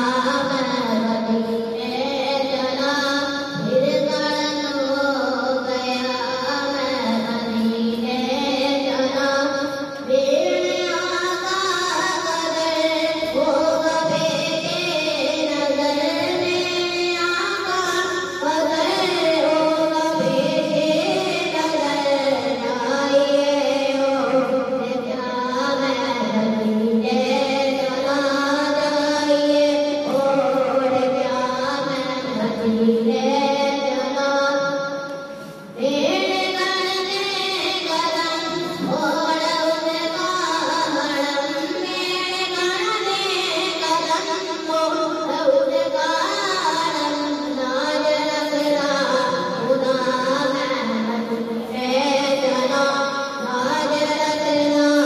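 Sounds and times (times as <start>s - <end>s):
boy singing into a microphone: 0.0s - 55.0s.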